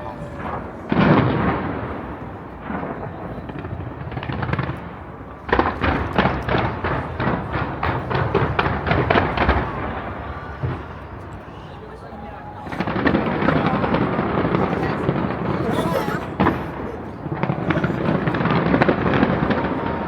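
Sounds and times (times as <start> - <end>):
fireworks bang with rumble: 0.0 - 11.2, 12.6 - 20.0
rapid firework bangs: 0.5 - 10.8, 12.7 - 20.0.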